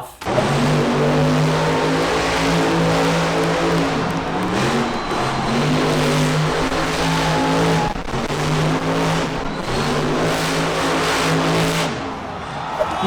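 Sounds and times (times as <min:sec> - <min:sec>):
loud noisy wash: 0:00.2 - 0:13.0
monster truck engine revving: 0:00.2 - 0:13.0.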